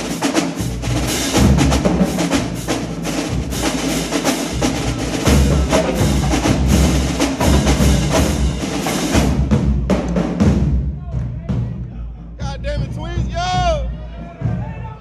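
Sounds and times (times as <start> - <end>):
snare and tenor drums: 0.0 - 14.8
bass drums: 0.0 - 15.0.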